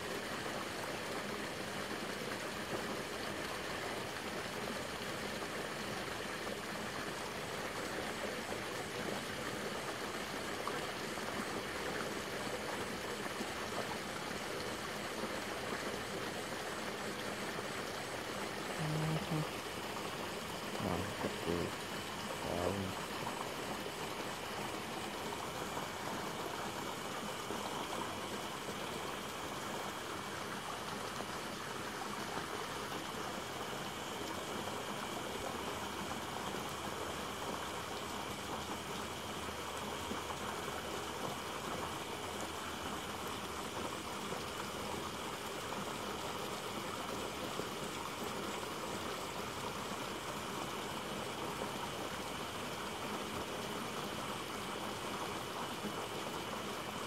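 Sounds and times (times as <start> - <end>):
water rushing: 0.0 - 57.0.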